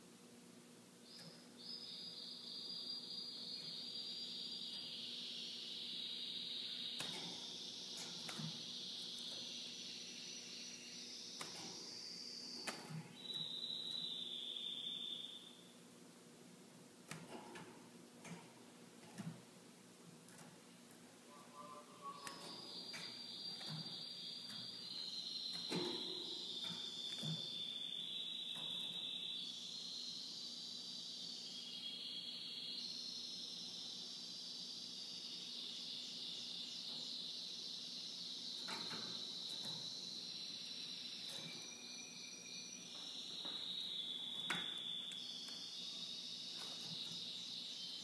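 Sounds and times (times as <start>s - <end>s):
canary singing trills: 1.0s - 15.8s, 21.3s - 48.0s.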